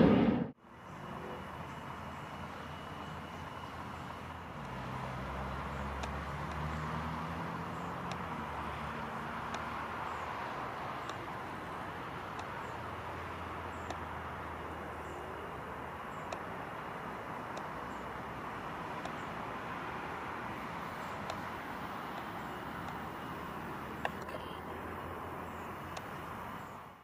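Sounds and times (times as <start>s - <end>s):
jet engines idling: 0.0s - 6.8s, 7.6s - 27.0s.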